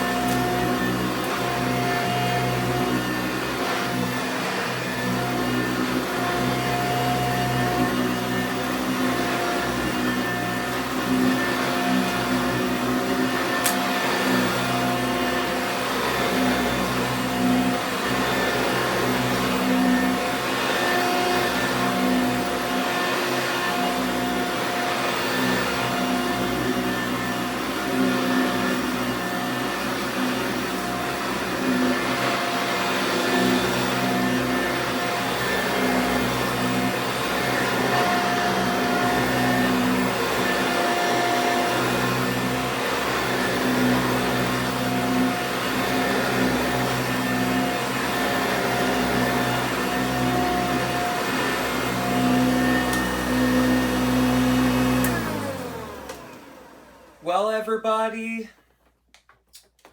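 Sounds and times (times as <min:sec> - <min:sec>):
vacuum cleaner running: 0:00.0 - 0:58.4.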